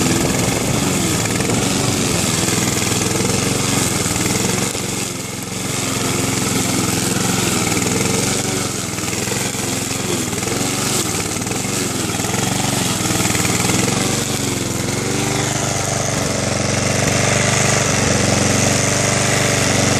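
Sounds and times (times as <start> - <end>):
lawn mower cutting long grass: 0.0 - 19.9.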